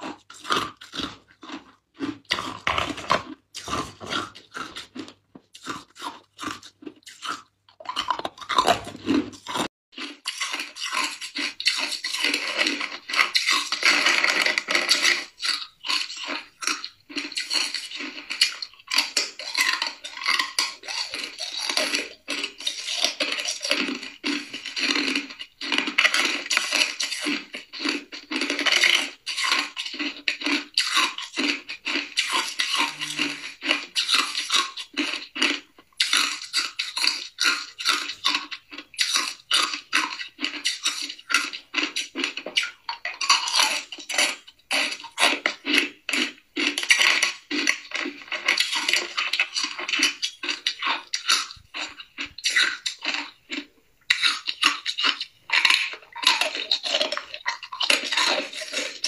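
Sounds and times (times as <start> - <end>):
ice cubes being chewed: 0.0 - 59.0.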